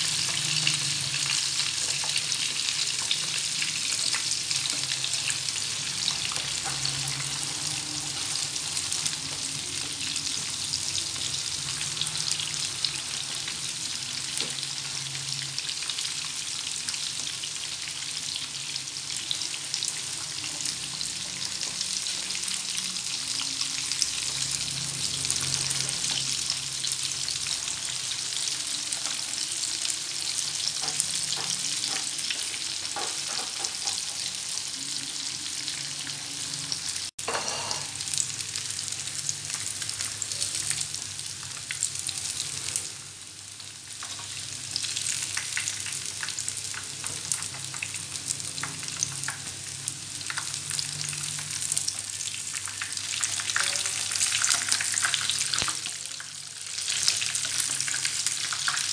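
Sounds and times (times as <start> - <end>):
fritters deep-frying in oil: 0.0 - 58.9.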